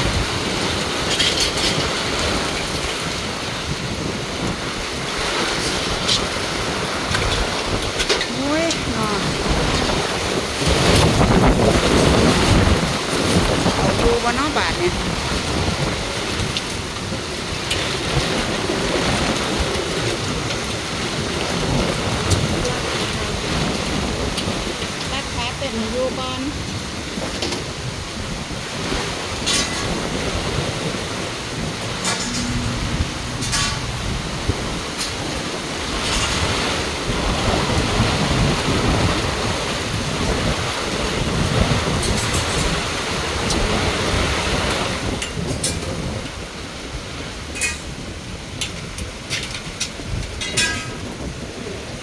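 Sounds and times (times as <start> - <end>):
heavy rain pouring: 0.0 - 52.0
wind gusting on microphone: 0.0 - 52.0.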